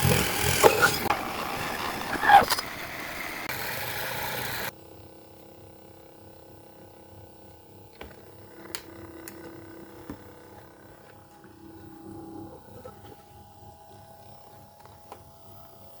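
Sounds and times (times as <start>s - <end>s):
small motor humming: 0.0s - 5.2s, 6.4s - 16.0s.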